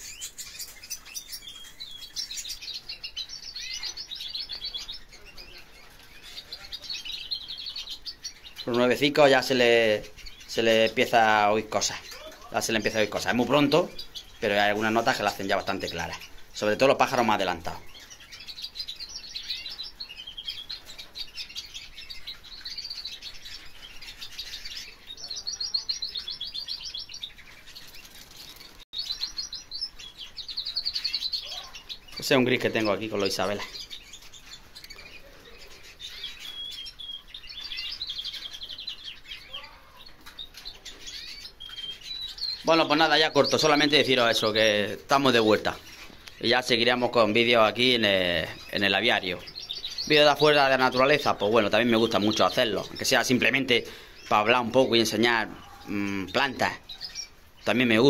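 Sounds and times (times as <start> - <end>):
canaries singing trills: 0.0 - 58.0.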